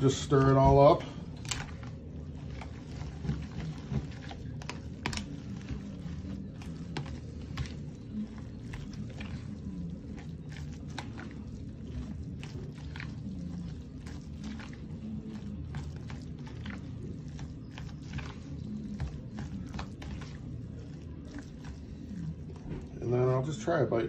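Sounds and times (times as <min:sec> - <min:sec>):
utensil stirring noodles in bowl: 0:00.0 - 0:23.6
utensil clicking and scraping bowl: 0:00.3 - 0:22.9.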